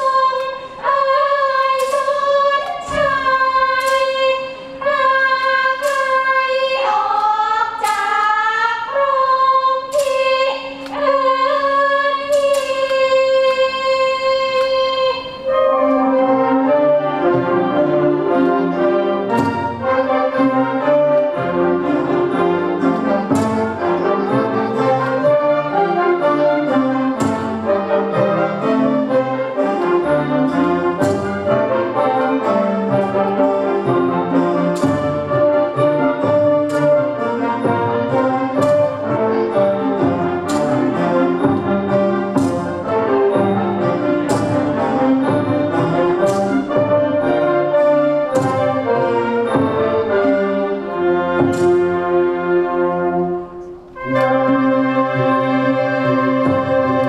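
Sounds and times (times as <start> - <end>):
orchestral music: 0.0 - 57.0.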